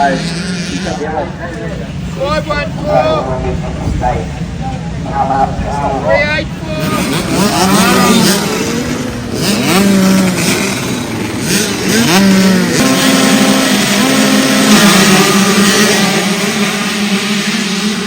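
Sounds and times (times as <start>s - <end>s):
dirt bikes racing past: 0.0s - 18.0s.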